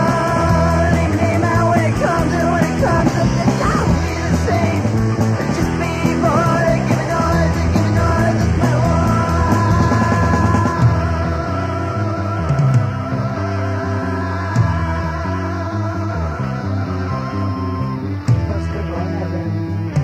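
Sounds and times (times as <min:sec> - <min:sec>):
punk rock band playing: 0:00.0 - 0:20.0
yelled vocals: 0:00.0 - 0:20.0.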